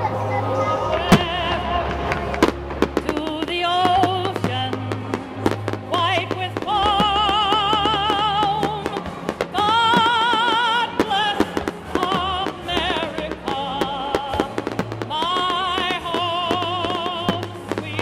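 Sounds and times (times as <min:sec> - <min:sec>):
fireworks exploding: 0:00.9 - 0:18.0.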